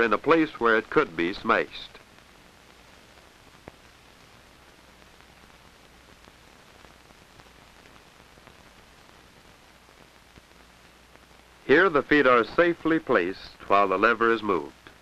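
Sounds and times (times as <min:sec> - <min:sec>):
faint film hiss: 0:00.0 - 0:15.0.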